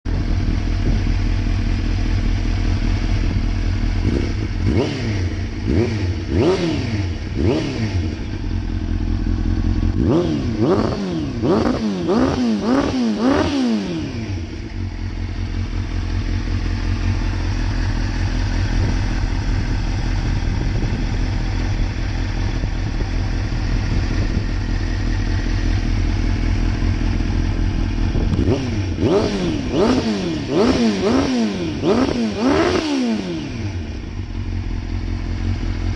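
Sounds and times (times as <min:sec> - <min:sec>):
motorcycle engine idling: 0:00.0 - 0:35.9
motorcycle throttle blips: 0:00.1 - 0:35.9.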